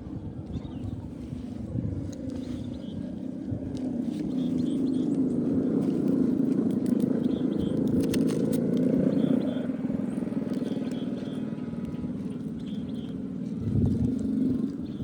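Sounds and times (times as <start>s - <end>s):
motorcycle engine idling: 2.1s - 15.0s.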